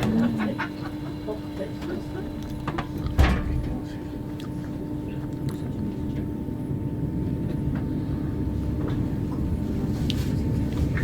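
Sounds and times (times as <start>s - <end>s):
electric train hum: 0.0s - 11.0s
train rumble: 0.0s - 11.0s.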